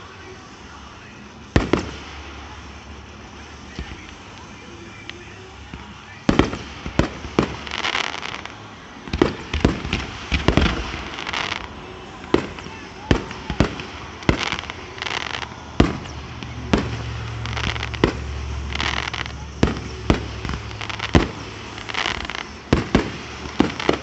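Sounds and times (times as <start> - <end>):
fireworks bursting in bangs: 0.0 - 24.0
fireworks crackling fizz: 0.0 - 24.0.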